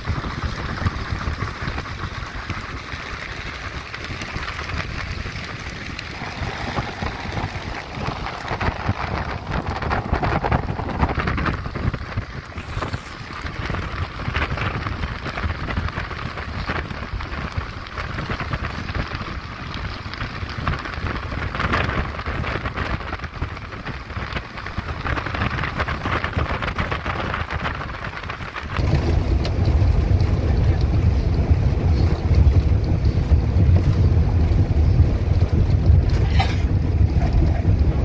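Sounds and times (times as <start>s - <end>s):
boat engine rumble: 0.0s - 38.0s
rushing splashing water: 0.0s - 38.0s
wind on microphone: 0.0s - 38.0s.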